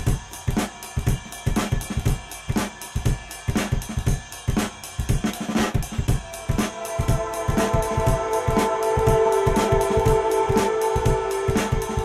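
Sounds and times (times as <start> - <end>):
drum kit playing a steady beat: 0.0 - 12.0
intro music: 0.0 - 12.0.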